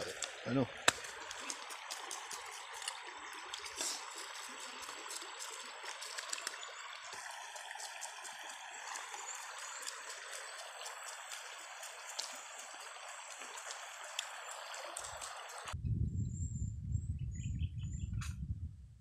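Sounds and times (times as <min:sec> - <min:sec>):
stream running over stones: 0:00.0 - 0:15.8.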